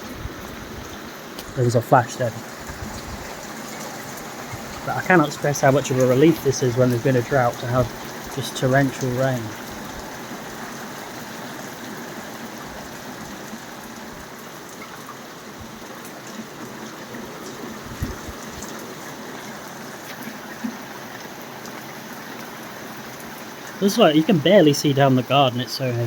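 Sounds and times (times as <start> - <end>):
heavy rain downpour: 0.0 - 26.0.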